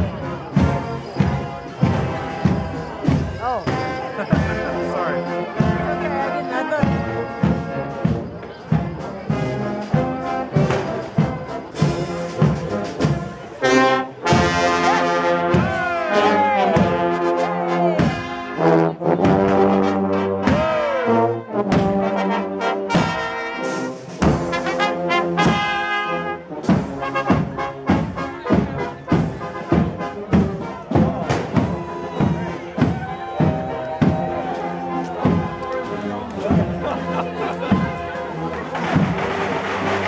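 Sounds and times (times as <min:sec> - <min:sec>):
brass band playing a march: 0:00.0 - 0:40.0.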